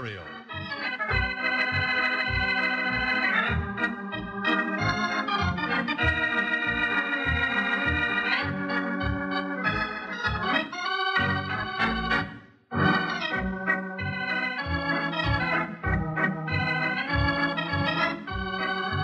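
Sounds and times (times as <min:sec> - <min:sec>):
organ music with held chords: 0:00.0 - 0:19.0.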